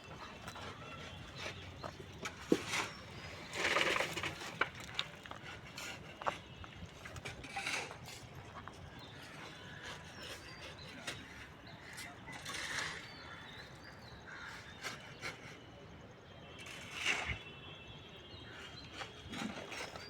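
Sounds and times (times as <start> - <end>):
clinks and knocks of concrete work: 0.0 - 15.6, 16.6 - 17.4, 18.6 - 20.0.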